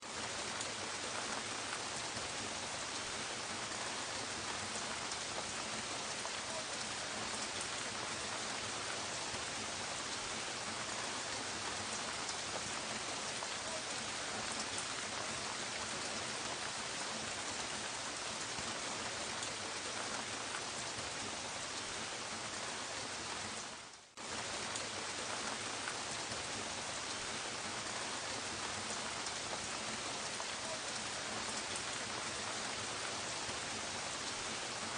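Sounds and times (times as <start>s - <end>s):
gentle steady rain: 0.0s - 34.9s.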